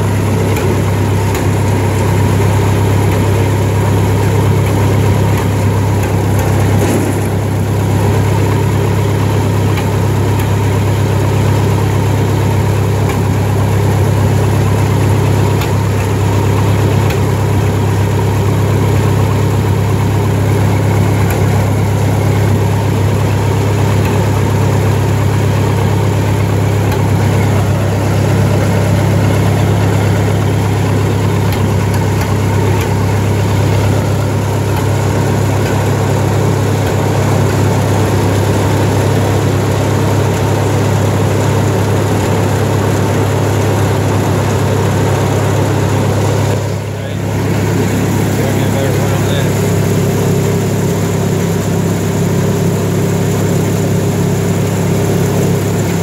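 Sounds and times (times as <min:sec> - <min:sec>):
gasoline engine idling: 0:00.0 - 0:56.0.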